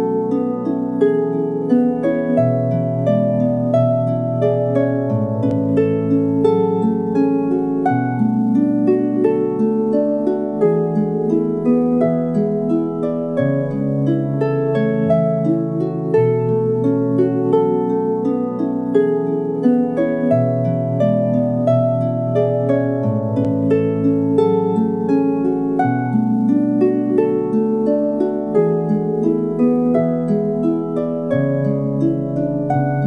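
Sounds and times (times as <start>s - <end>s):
lyre plucked notes: 0.0s - 33.0s.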